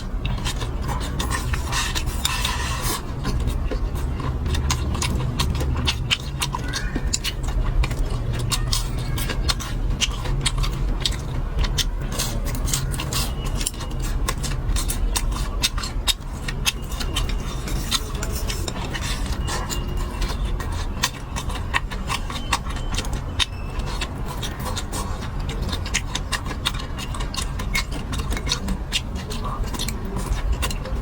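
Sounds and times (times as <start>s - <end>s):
chewing and mouth clicks: 0.0s - 31.0s
steady low hum: 0.0s - 31.0s.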